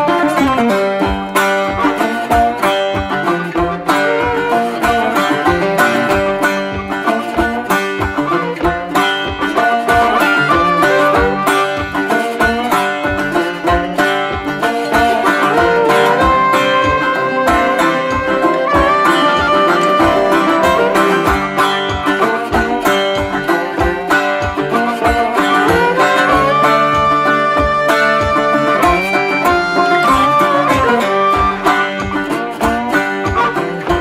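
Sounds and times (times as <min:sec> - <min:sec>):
upbeat plucked string music: 0:00.0 - 0:34.0.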